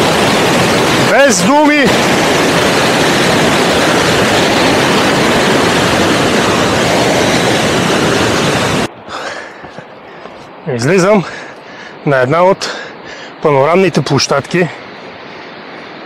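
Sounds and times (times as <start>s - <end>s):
mountain river rushing over rocks: 0.0s - 16.0s.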